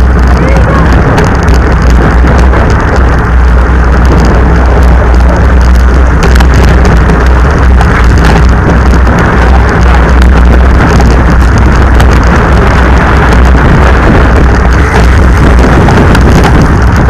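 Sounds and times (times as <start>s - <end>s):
bicycle rattling on gravel: 0.0s - 17.0s
wind buffeting microphone: 0.0s - 17.0s.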